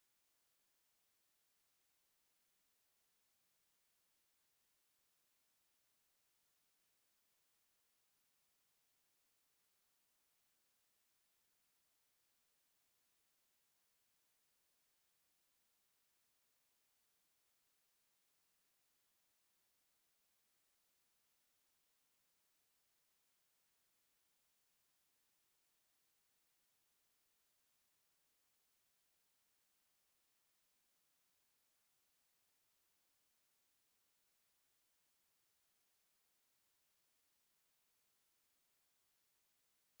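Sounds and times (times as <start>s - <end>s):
high-pitched sine test tone: 0.0s - 40.0s.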